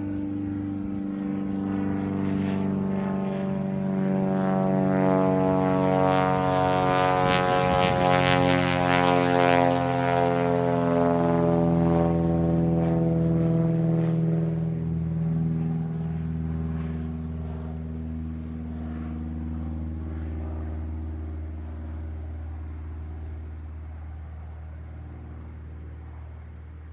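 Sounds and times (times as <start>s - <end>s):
propeller plane droning: 0.0s - 26.9s.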